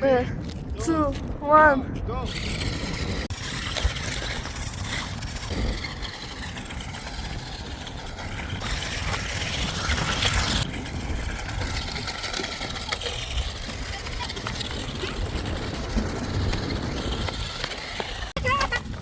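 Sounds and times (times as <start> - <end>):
wind rumbling on microphone: 0.0 - 19.0
toy truck electric motor whirring: 2.3 - 18.4.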